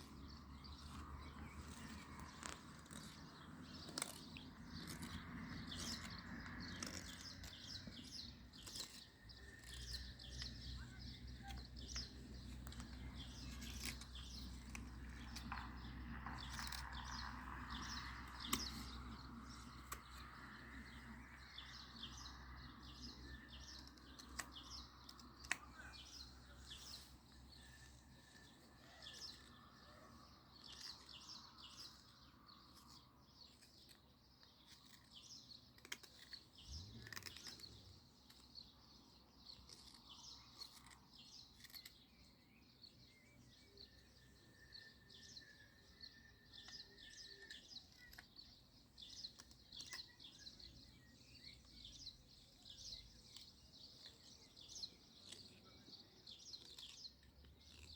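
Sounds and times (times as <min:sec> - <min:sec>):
light quick clicks and scrapes: 0:00.0 - 0:22.3, 0:22.9 - 0:57.9
faint birds chirping: 0:00.0 - 0:57.9.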